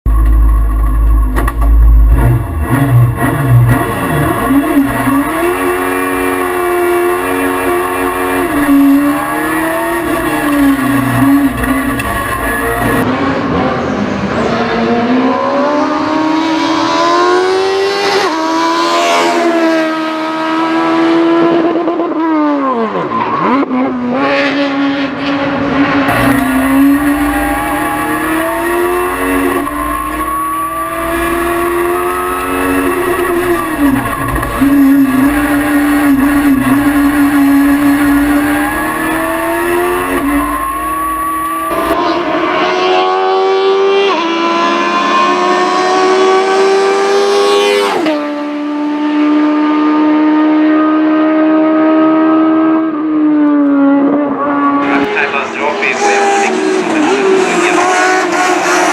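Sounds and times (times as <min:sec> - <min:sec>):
racing car engine accelerating: 0:00.1 - 0:58.9.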